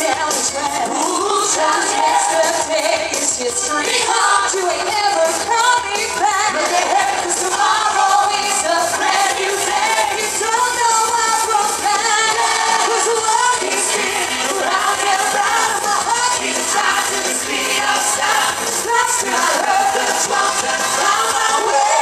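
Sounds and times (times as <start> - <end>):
loud pop backing track: 0.0 - 22.0
singers on microphones: 0.0 - 22.0.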